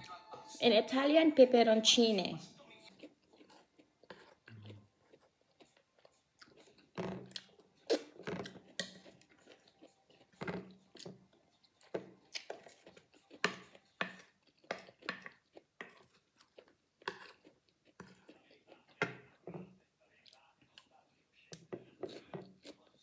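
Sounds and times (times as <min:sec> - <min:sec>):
chewing crisp peppers: 0:02.6 - 0:23.0.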